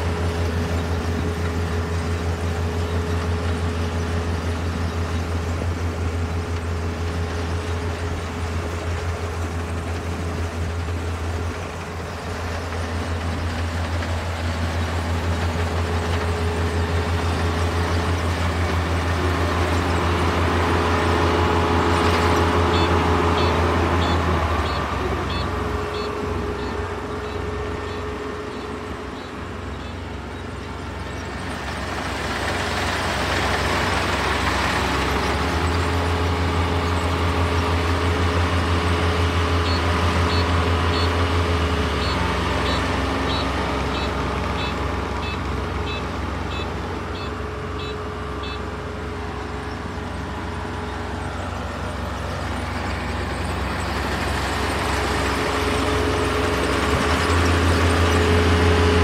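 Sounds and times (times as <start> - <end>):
combine harvester engine hum: 0.0 - 59.0.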